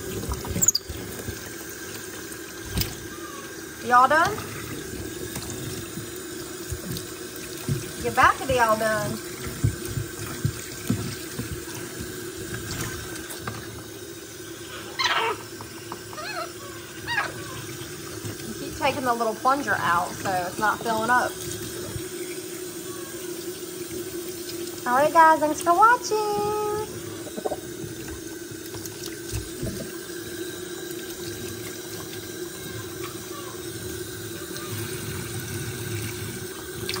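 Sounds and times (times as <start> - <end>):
faucet water pouring: 0.0 - 37.0.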